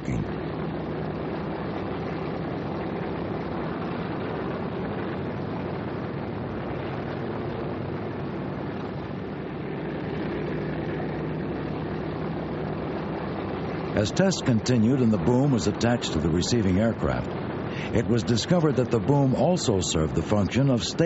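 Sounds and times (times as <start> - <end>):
aircraft engines droning: 0.0 - 21.0.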